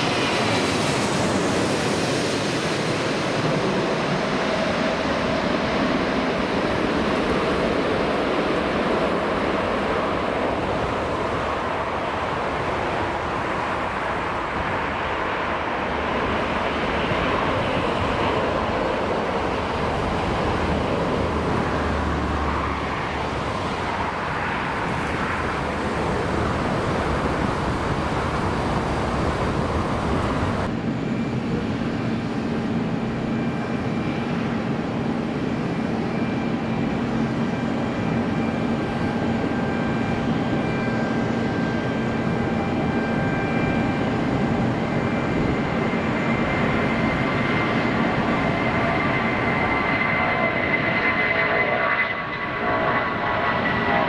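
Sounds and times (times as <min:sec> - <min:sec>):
jet airliner rushing roar: 0:00.0 - 0:54.0
jet engines whining at takeoff: 0:00.0 - 0:54.0.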